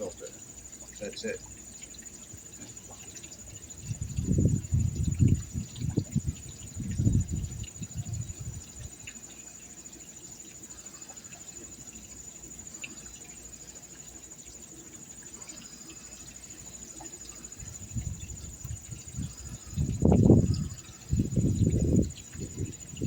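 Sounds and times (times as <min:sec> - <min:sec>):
insect trilling: 0:00.0 - 0:23.0.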